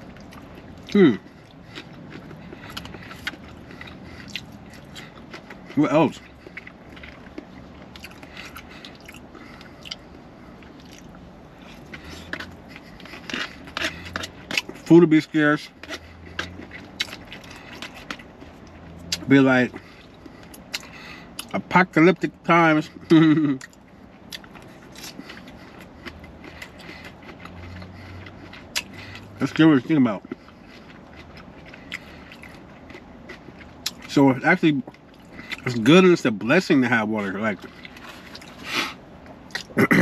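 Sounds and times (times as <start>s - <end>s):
person chewing food: 0.0s - 36.1s, 37.2s - 39.8s
faint low hum: 0.0s - 40.0s.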